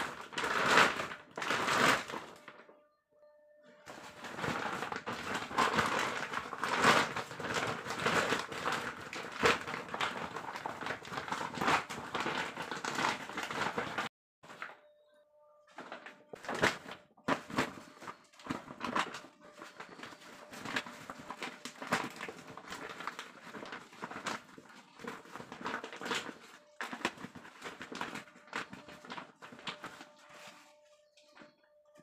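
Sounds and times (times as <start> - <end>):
plastic sack crinkling and rustling: 0.0 - 2.7, 3.9 - 14.8, 15.8 - 31.5.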